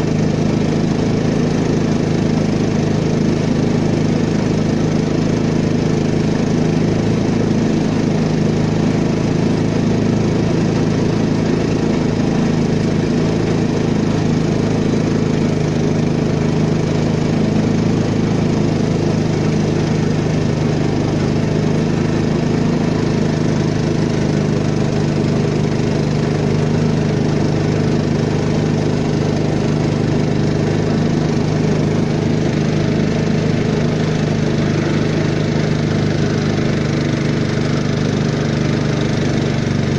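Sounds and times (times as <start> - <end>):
boat engine running steadily: 0.0 - 39.9.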